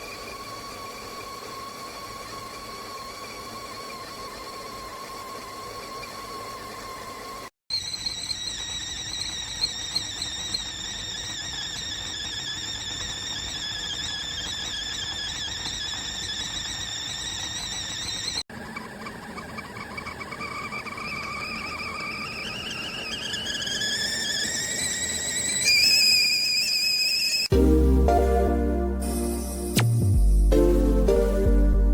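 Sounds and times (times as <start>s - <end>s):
kettle whistling: 0.0s - 27.5s.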